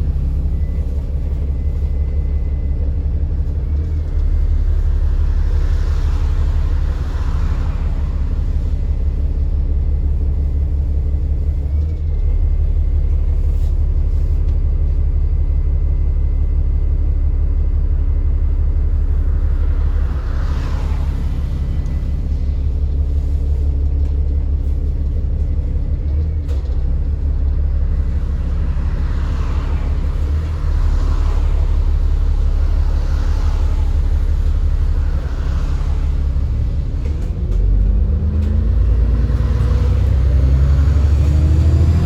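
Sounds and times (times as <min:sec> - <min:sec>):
turbo whine: 0:00.0 - 0:37.5
bus diesel engine rumbling: 0:00.0 - 0:42.0.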